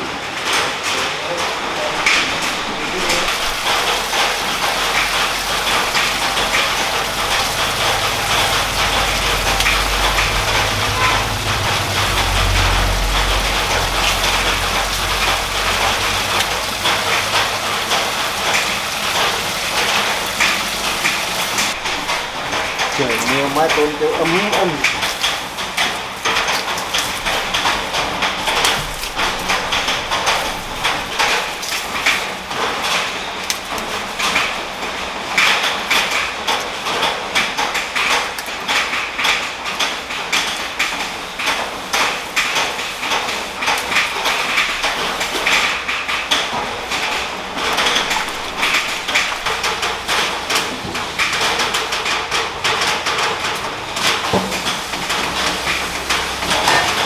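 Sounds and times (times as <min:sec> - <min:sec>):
rain on metal roof: 0:00.0 - 0:57.0.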